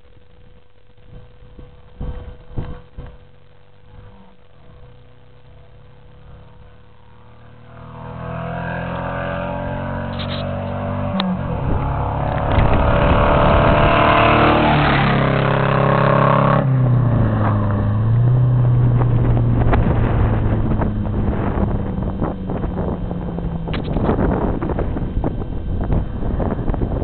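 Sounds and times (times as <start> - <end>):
motor engine revving: 1.1 - 27.0.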